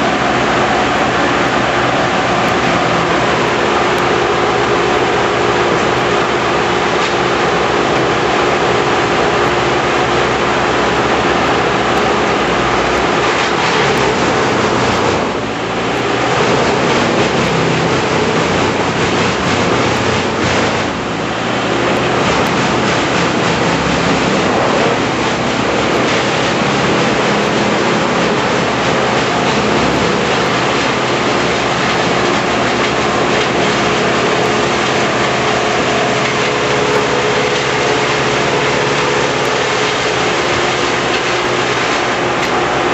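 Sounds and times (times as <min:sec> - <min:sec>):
heavy machinery running: 0:00.0 - 0:42.9.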